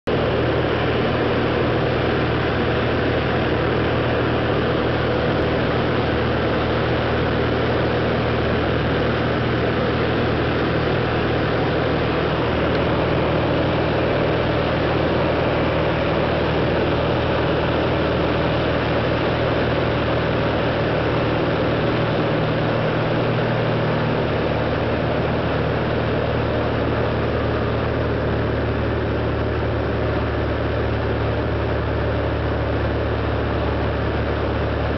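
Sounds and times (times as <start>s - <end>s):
plane engine and propeller drone: 0.0s - 34.9s.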